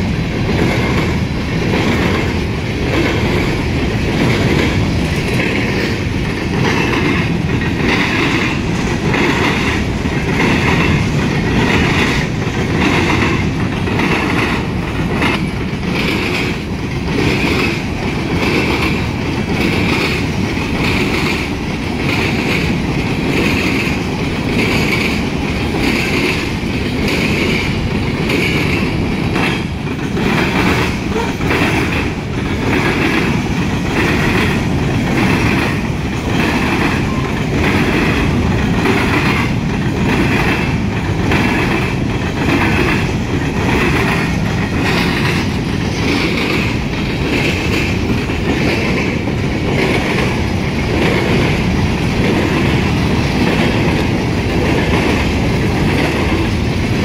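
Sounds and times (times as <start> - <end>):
steel wheels rumbling on track: 0.0 - 57.0.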